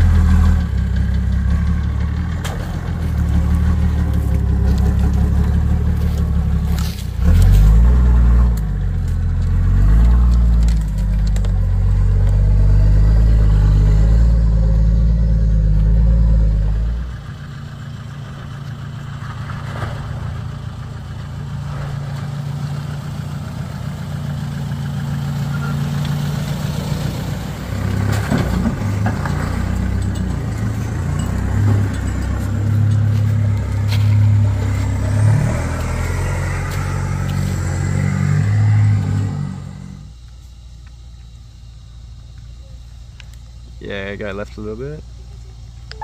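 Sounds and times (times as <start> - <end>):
truck engine revving under load: 0.0 - 40.2
low engine hum: 0.0 - 46.0.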